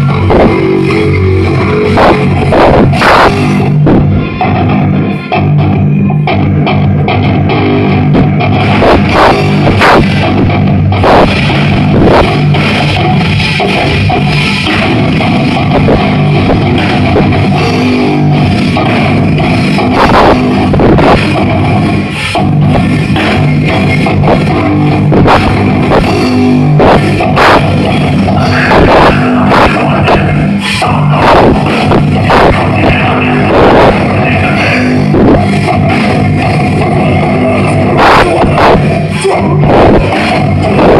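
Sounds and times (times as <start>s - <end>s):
drum kit: 0.0s - 40.9s
heavy distorted guitars: 0.0s - 40.9s.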